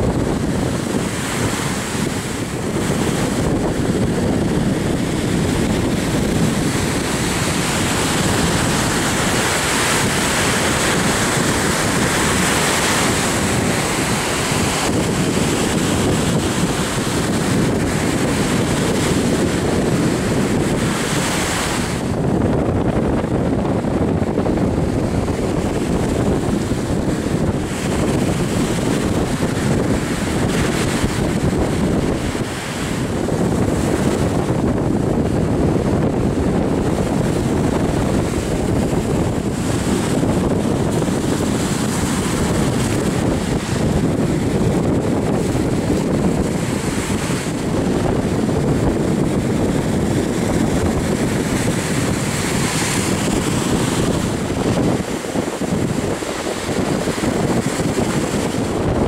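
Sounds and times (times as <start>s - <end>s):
surf breaking on shore: 0.0s - 59.0s
wind buffeting microphone: 0.0s - 59.0s.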